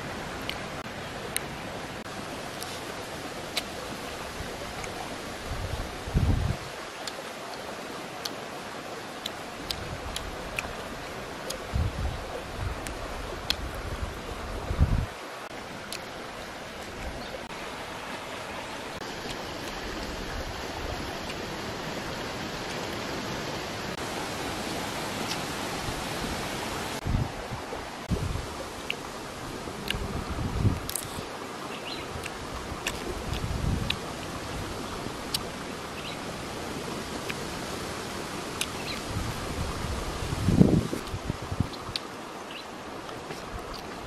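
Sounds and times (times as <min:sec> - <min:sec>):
outdoor background hiss: 0:00.0 - 0:44.0
stream water rushing: 0:00.0 - 0:44.0.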